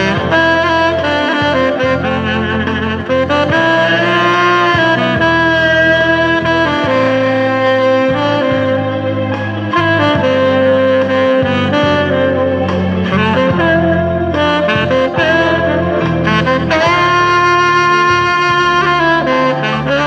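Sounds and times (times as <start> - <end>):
saxophone playing slow melody: 0.0 - 20.0.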